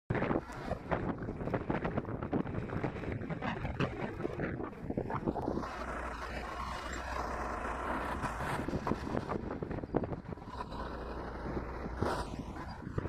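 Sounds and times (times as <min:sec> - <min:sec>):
bus engine droning: 0:00.1 - 0:13.0
road traffic: 0:00.1 - 0:13.0
wind buffeting microphone: 0:00.1 - 0:13.0.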